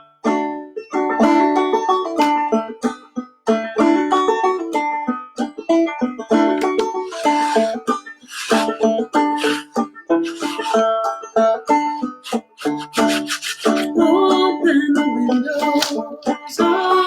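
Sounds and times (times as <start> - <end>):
clawhammer banjo playing: 0.0 - 17.0.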